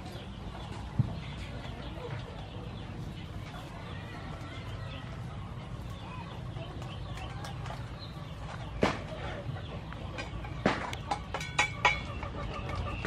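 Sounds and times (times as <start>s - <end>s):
chickens clucking: 0.0s - 13.0s
low background noise: 0.0s - 13.0s.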